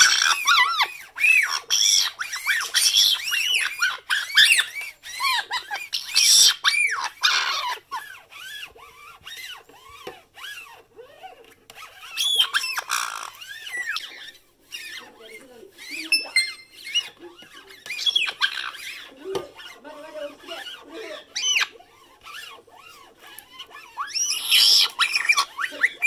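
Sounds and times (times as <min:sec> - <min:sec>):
parrot chirping: 0:00.0 - 0:10.8, 0:11.8 - 0:26.0
parrot screeching: 0:00.0 - 0:26.0.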